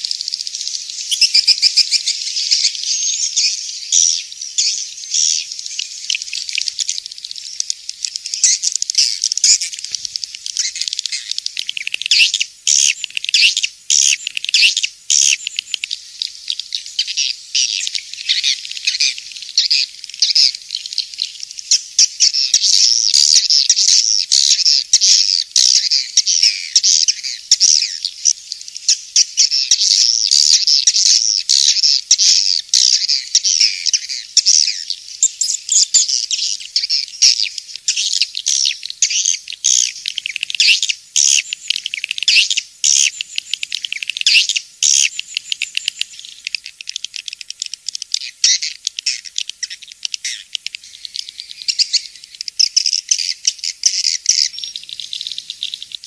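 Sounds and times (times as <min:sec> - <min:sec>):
swiftlets chirping and twittering: 0:00.0 - 0:56.0.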